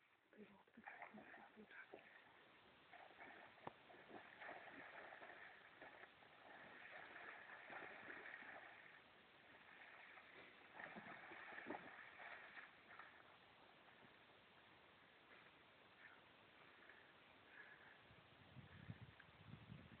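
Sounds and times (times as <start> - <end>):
soft even hiss: 0.0 - 20.0.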